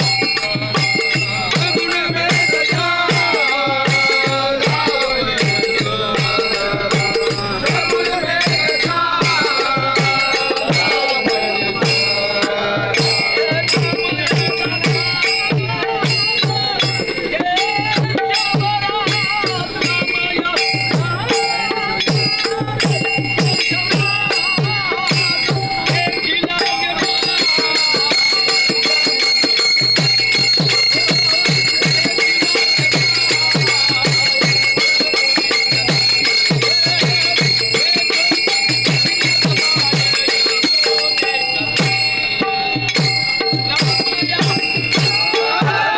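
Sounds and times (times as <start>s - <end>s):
hand percussion beat: 0.0s - 45.9s
metallic ringing: 0.0s - 45.9s
voices singing devotional song: 0.0s - 45.9s.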